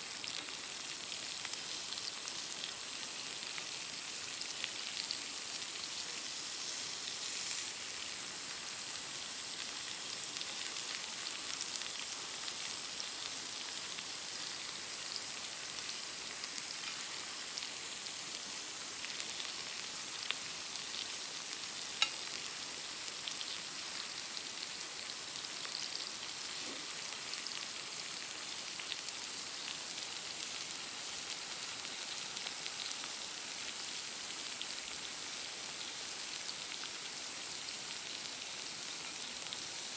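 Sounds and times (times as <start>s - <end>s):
steak sizzling over campfire: 0.0s - 39.9s.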